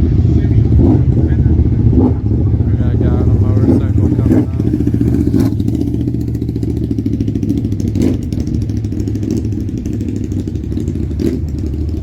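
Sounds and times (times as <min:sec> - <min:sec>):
motorcycle engine passing: 0:00.4 - 0:12.0.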